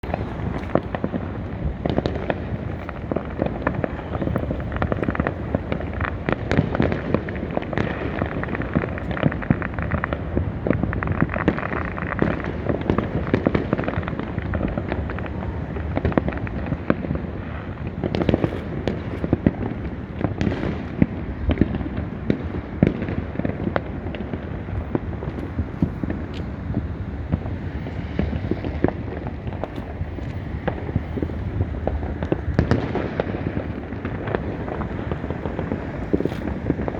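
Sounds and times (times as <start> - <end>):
fireworks and firecrackers banging: 0.0 - 36.9.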